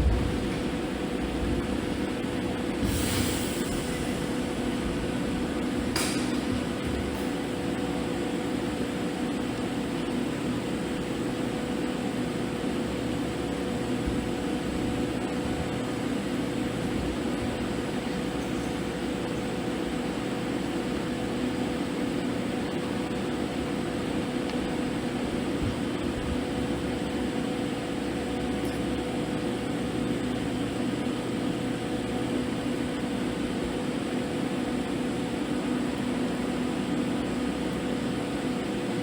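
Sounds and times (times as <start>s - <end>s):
welding arc buzzing hiss: 0.0s - 39.0s.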